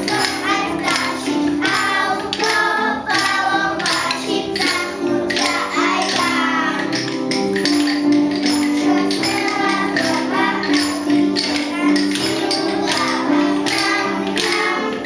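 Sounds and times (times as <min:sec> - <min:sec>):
children singing: 0:00.0 - 0:15.0
wooden rhythm sticks tapping: 0:00.0 - 0:15.0.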